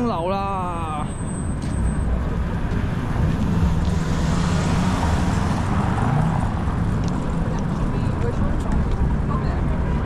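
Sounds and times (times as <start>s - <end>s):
low rumble of traffic: 0.0s - 10.0s
passing vehicle engine hum: 0.9s - 10.0s.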